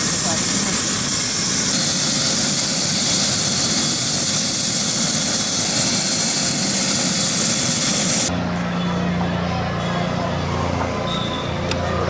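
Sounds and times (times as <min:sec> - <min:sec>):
helicopter engine and rotor: 0:00.0 - 0:09.7
high turbine whine: 0:00.0 - 0:12.0.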